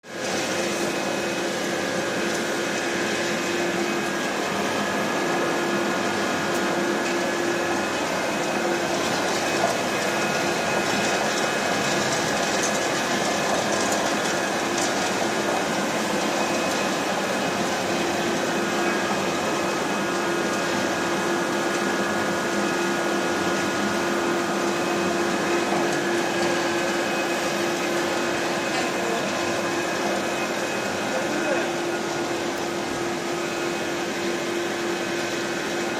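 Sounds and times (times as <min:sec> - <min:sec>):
pellet mill machine running: 0:00.0 - 0:35.9.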